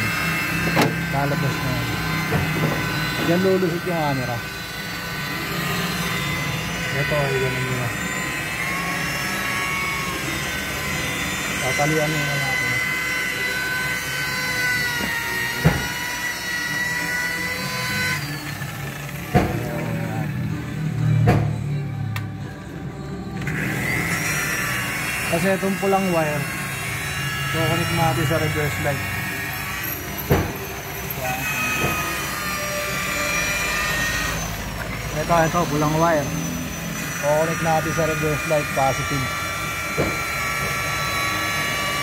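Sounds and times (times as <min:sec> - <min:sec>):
high-pitched motor whine: 0:00.0 - 0:42.0
mechanical hum: 0:00.0 - 0:42.0.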